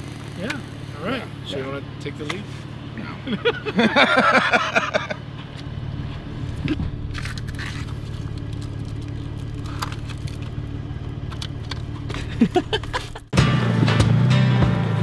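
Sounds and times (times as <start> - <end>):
engine running low drone: 0.0 - 15.0.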